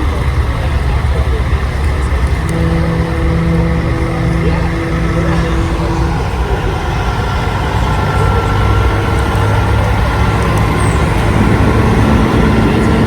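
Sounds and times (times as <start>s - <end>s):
truck diesel engines running: 0.0s - 13.0s.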